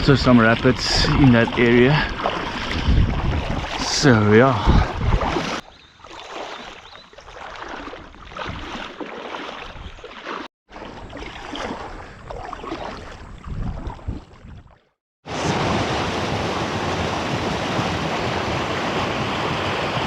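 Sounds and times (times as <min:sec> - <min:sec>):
kayak paddling water splashing: 0:00.0 - 0:20.0.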